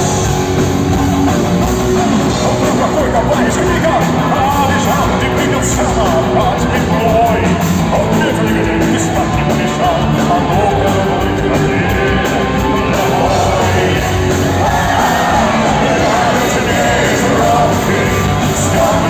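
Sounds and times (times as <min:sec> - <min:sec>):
live rock band playing: 0:00.0 - 0:19.0
person singing: 0:01.9 - 0:19.0.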